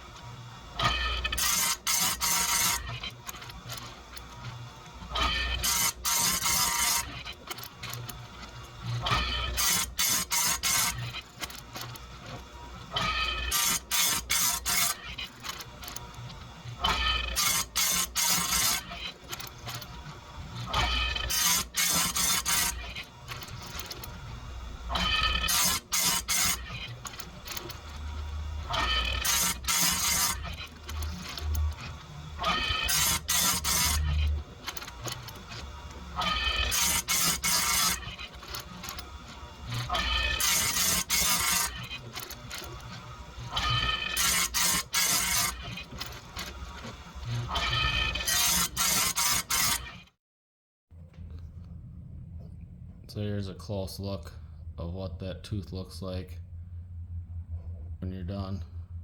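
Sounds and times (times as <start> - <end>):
grinder wheel running: 0.0 - 50.1
grinding wheel grinding chain teeth: 0.0 - 50.1.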